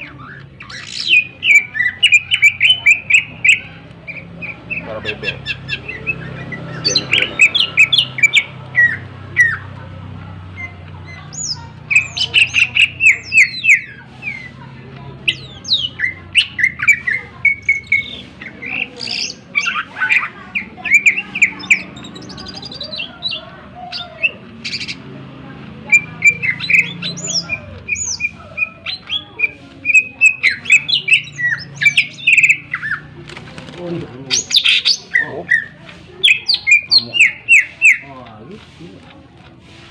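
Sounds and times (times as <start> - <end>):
bird singing chirps and trills: 0.0 - 38.8.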